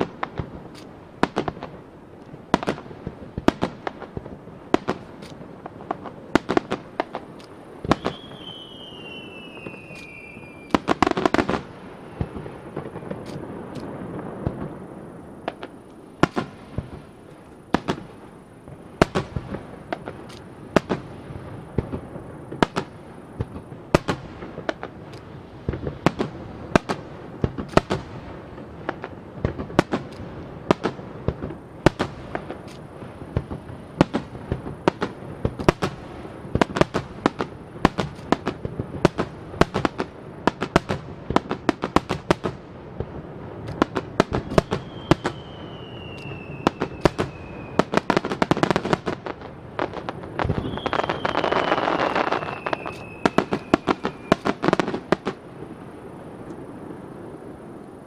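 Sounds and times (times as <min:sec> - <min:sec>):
fireworks shells bursting: 0:00.0 - 0:42.6, 0:43.6 - 0:55.5.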